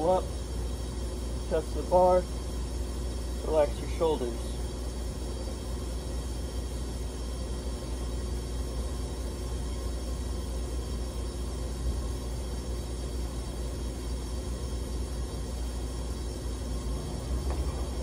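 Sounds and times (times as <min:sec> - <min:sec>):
faint steady tones: 0:00.0 - 0:18.0
industrial machinery hum: 0:00.0 - 0:18.0.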